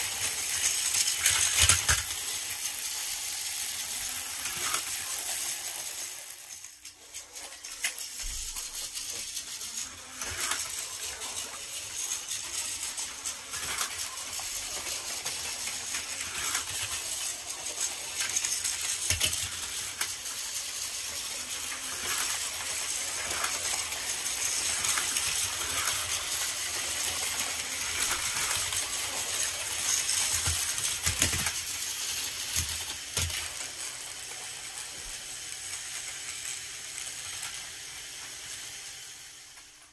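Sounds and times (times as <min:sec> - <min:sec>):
toy train motor whir: 0:00.0 - 0:39.9.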